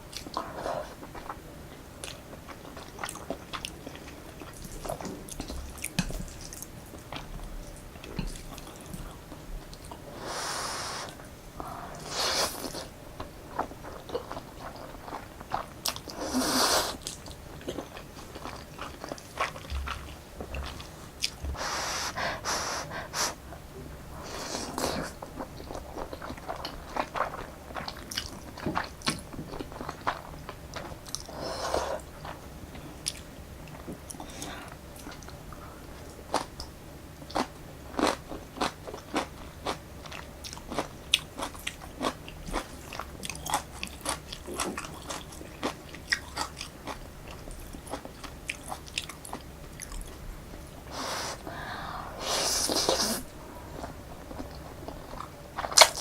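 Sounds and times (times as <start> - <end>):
wet chewing of noodles: 2.0 - 56.0.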